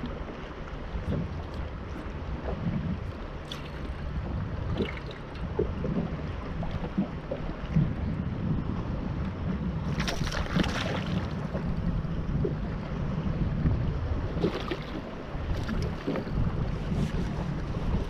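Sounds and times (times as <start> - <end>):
water splashing against boat: 0.0 - 18.0
wind buffeting microphone: 0.0 - 18.0.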